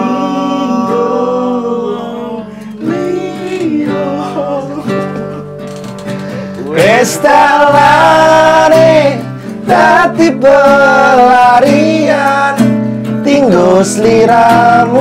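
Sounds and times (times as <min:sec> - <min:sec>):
men singing: 0:00.0 - 0:05.4, 0:06.6 - 0:15.0
acoustic guitar strumming: 0:00.0 - 0:15.0.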